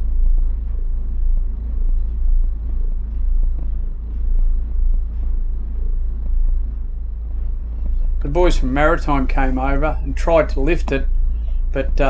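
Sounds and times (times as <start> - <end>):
pulsing low rumble: 0.0 - 12.0.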